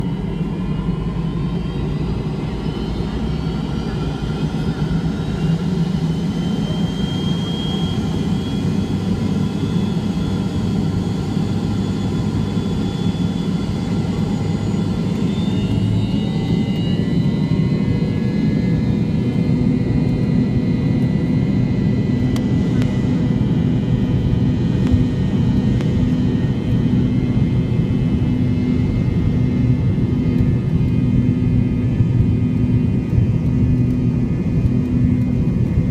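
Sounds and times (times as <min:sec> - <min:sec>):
jet engines at takeoff power: 0:00.0 - 0:35.9.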